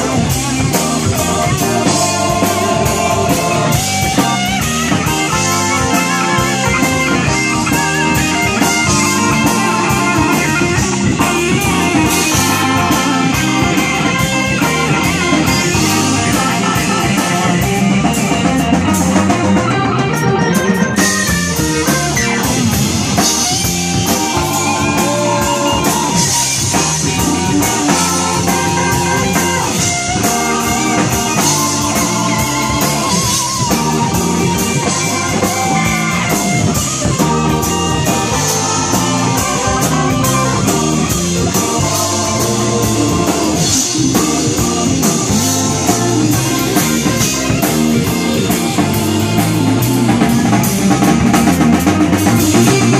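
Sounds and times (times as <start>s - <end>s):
bass guitar: 0.0s - 52.9s
drum kit beat: 0.0s - 52.9s
electric guitars: 0.0s - 52.9s
keyboards: 0.0s - 52.9s.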